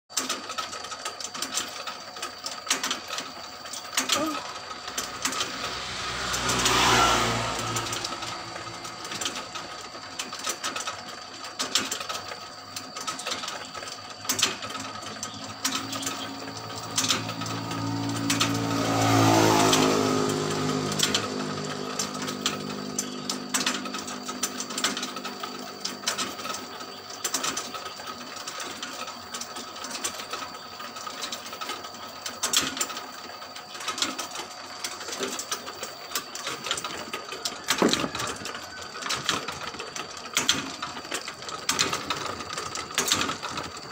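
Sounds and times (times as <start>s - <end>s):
mechanical hum: 0.1s - 43.9s
rotisserie chain clicking and rattling: 0.1s - 43.9s
passing vehicle: 2.6s - 12.3s, 14.2s - 43.9s.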